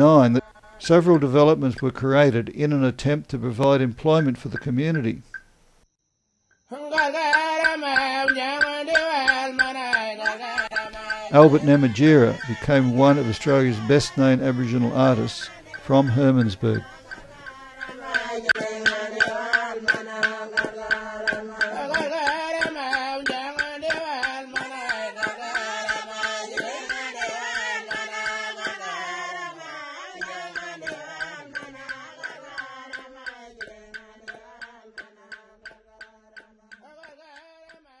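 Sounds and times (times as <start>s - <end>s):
sharp clicks beat: 3.0s - 5.8s, 6.5s - 29.1s, 30.2s - 37.8s
group singing: 6.7s - 38.0s.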